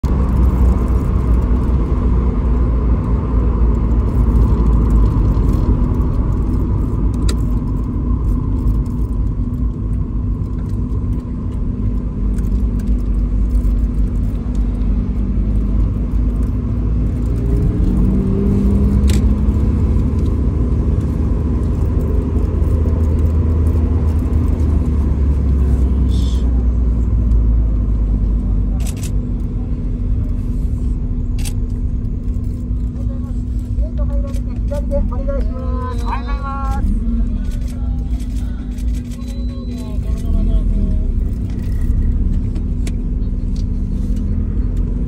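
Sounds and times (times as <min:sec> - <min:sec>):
car engine and road rumble: 0:00.0 - 0:45.0.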